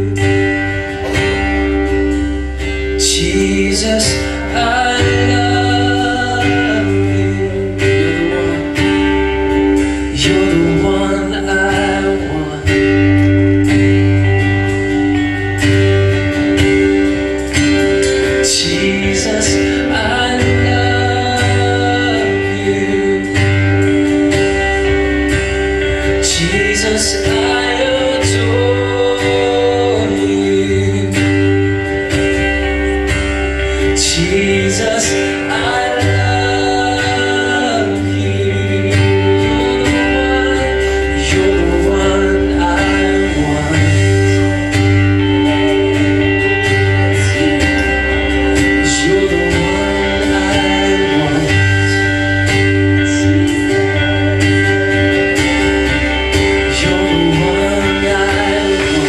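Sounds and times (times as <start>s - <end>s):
band playing slow song: 0.0s - 59.0s
person singing: 0.0s - 59.0s
strummed acoustic guitar: 0.0s - 59.0s.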